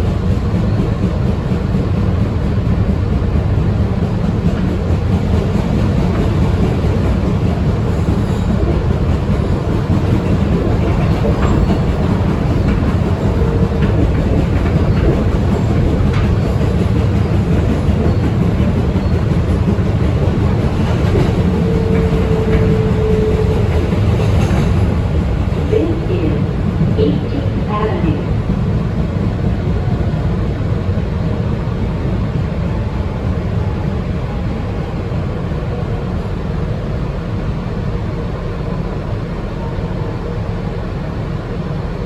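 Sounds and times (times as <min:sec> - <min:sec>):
steel wheels rumbling on rails: 0:00.0 - 0:38.7.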